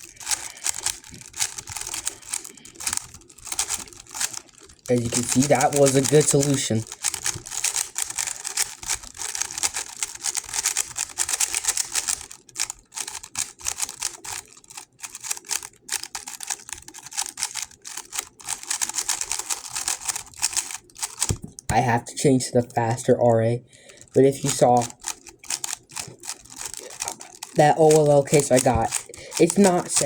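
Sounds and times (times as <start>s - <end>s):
puzzle cube clicking turns: 0.0s - 21.9s, 23.8s - 30.0s.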